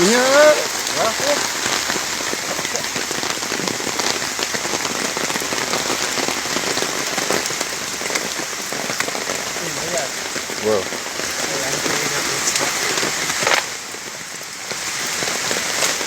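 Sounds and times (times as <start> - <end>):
steady rain patter: 0.0 - 16.0.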